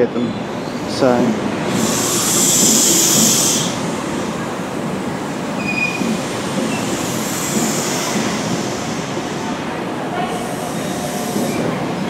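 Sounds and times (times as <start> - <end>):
train coaches rumbling past: 0.0 - 12.0.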